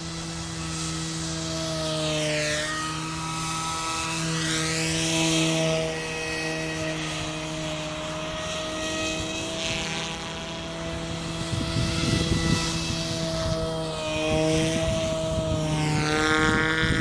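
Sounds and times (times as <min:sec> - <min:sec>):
helicopter passing whoosh: 0:00.0 - 0:17.0
rc helicopter rotor hum: 0:00.0 - 0:17.0.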